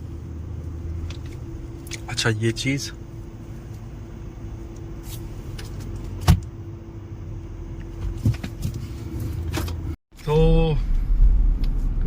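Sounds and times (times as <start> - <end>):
low hum inside car: 0.0 - 12.0.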